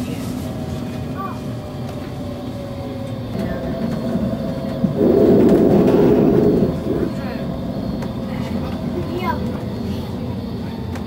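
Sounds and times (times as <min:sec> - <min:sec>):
tram rolling and motor hum: 0:00.0 - 0:11.0
faint steady whine: 0:02.1 - 0:11.0.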